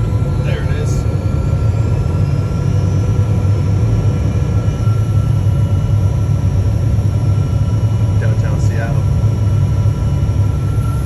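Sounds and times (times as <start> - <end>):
faint steady whine: 0.0 - 11.0
jet cabin rumble: 0.0 - 11.0.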